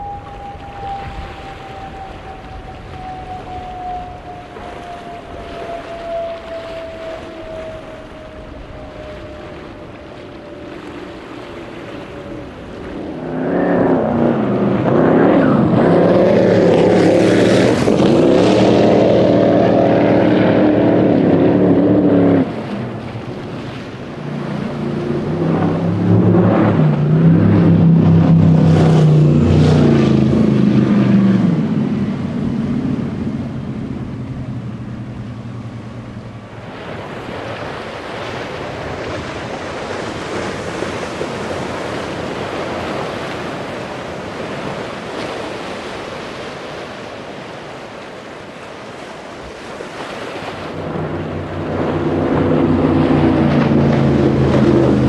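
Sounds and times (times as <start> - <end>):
powerboat engines at full throttle: 0.0 - 55.0
racing boat passing by: 0.0 - 55.0
water and wind rushing: 0.0 - 55.0.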